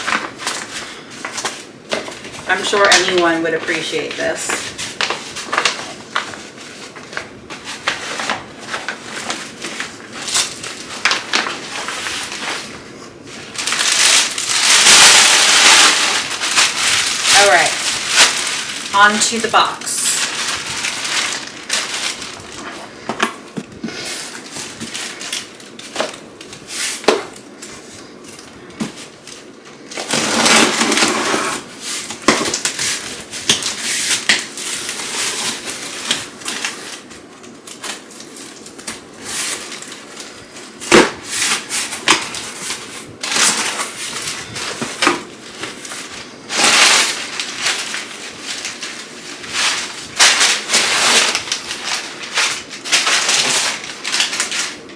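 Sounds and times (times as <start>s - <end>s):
packaging rustling: 0.0s - 54.9s
plastic and cardboard crinkling: 0.0s - 54.9s.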